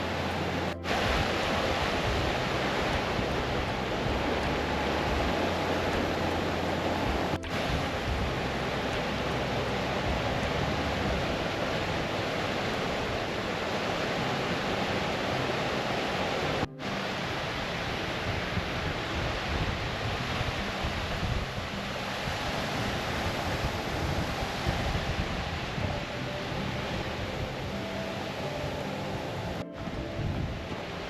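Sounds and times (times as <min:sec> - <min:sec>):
running water: 0:00.0 - 0:31.0
wind buffeting microphone: 0:00.0 - 0:31.0.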